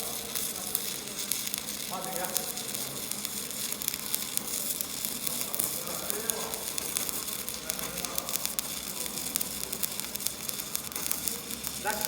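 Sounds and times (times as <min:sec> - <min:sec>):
welding arc crackling sizzle: 0:00.0 - 0:12.0.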